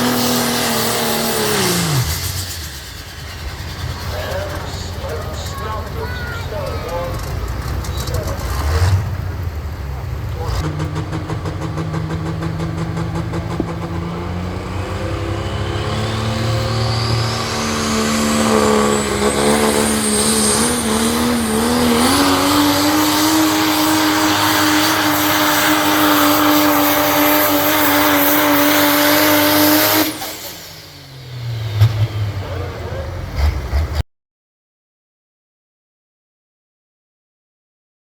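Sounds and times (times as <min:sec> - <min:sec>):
diesel truck engine at full power: 0:00.0 - 0:34.0.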